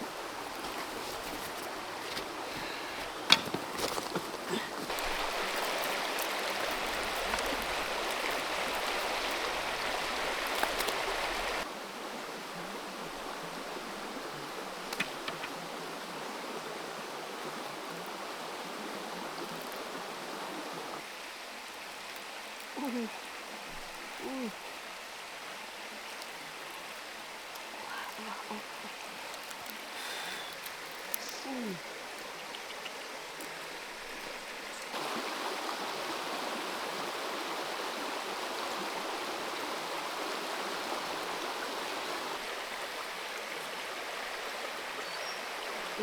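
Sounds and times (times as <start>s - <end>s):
creek water flowing: 0.0s - 46.0s.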